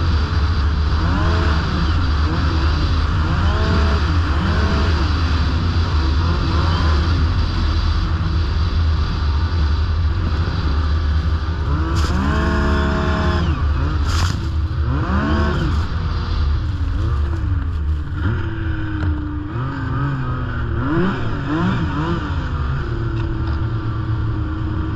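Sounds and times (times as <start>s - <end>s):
snowmobile engine revving: 0.0s - 8.1s, 10.1s - 24.9s.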